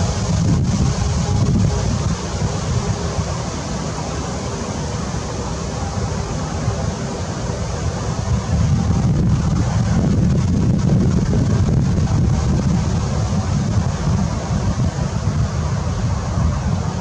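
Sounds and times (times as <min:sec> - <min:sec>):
wind and water hiss: 0:00.0 - 0:17.0
wind buffeting microphone: 0:00.0 - 0:17.0.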